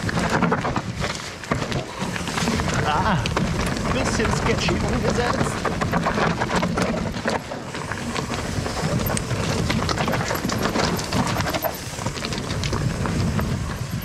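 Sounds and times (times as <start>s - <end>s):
bike rattling and knocking: 0.0s - 14.0s
bike tyres rumbling on dirt: 0.0s - 14.0s.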